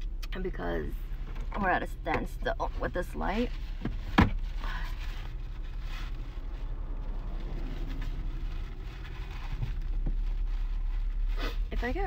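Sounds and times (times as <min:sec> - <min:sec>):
car idling hum: 0:00.0 - 0:12.0
soft rustling: 0:01.1 - 0:12.0.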